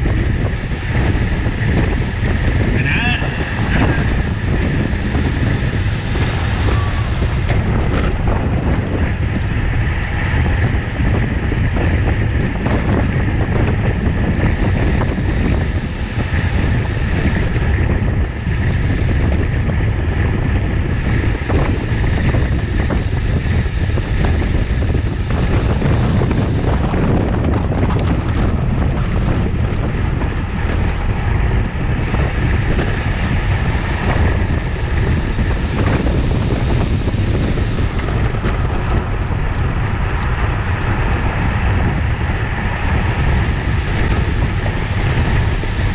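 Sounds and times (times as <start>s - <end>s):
wind rush on microphone: 0.0s - 45.9s.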